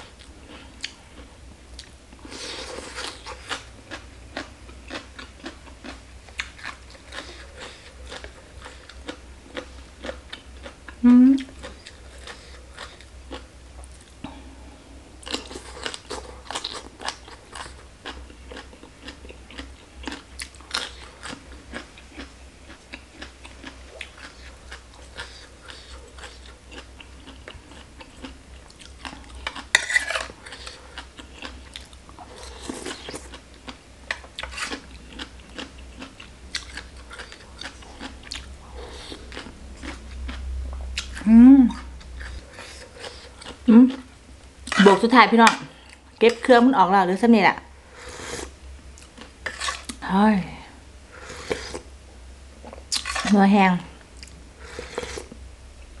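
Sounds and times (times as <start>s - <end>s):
chewing and crunching salad: 0.0s - 14.4s, 15.2s - 46.6s, 48.0s - 51.9s, 52.6s - 55.4s.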